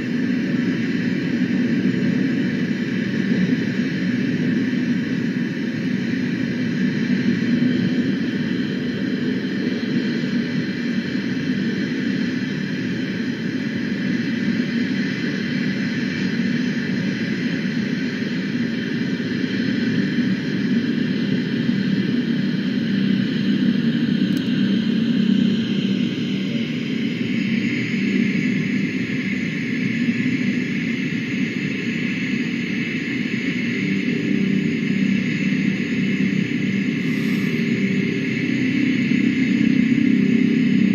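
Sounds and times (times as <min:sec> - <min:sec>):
engine-like drone: 0:00.0 - 0:40.9.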